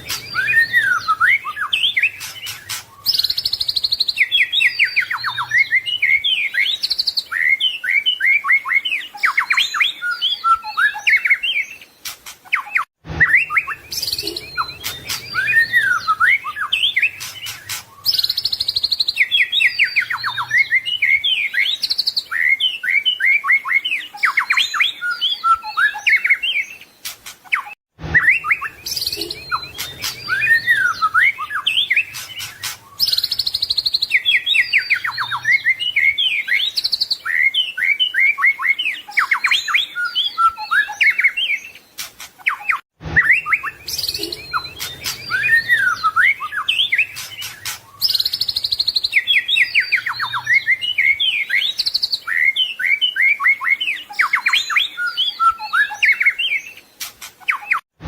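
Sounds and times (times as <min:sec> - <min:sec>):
songbird singing whistles and trills: 0:00.0 - 0:57.9.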